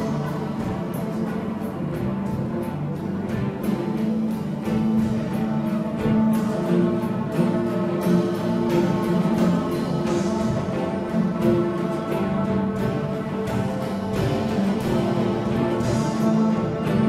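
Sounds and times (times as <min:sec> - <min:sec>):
light clicking percussion: 0:00.0 - 0:17.0.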